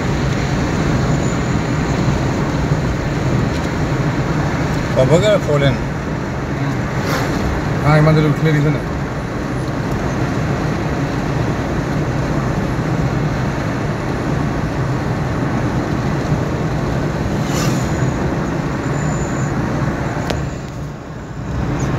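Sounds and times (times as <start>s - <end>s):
vehicle road noise at speed: 0.0s - 21.9s.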